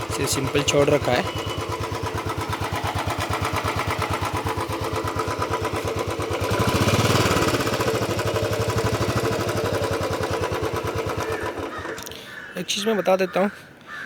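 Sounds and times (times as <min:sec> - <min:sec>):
motorcycle engine idling: 0:00.0 - 0:12.5.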